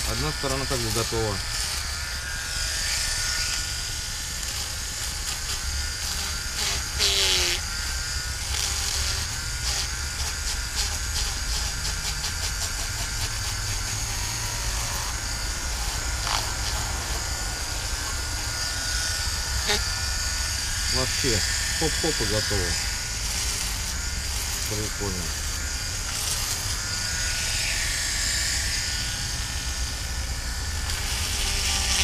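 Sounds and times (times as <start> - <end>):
electric fish scaler buzzing: 0.0 - 32.0.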